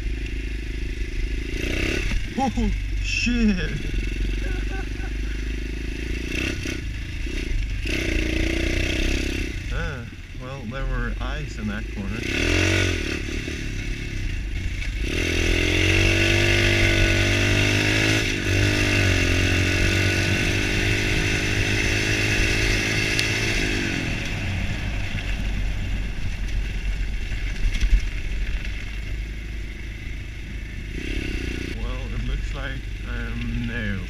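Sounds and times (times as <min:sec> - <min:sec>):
motorbike engine revving: 0:00.0 - 0:34.0.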